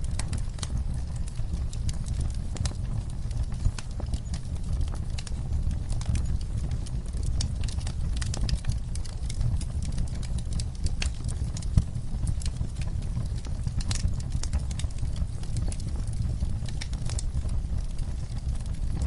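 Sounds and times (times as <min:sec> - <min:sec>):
sharp pops of fire: 0:00.0 - 0:19.0
wood fire crackling: 0:00.0 - 0:19.0.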